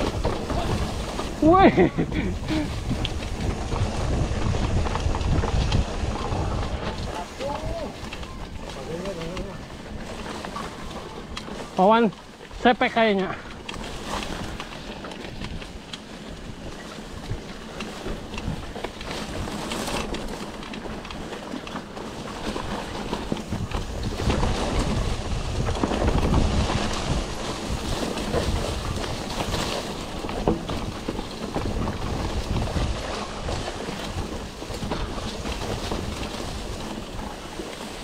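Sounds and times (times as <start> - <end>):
bike rattling with clicks: 0.0 - 38.0
bike tyres on loose dirt: 0.0 - 38.0
wind buffeting microphone: 0.0 - 38.0.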